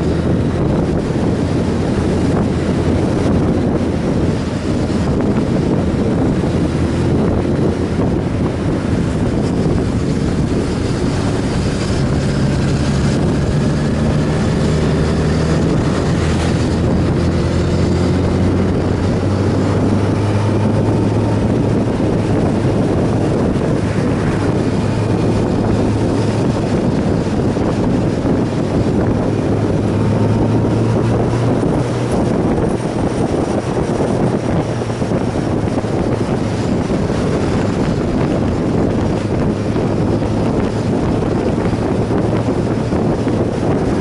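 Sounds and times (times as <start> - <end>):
motorcycle engine drone: 0.0 - 44.0
wind rushing over microphone: 0.0 - 44.0.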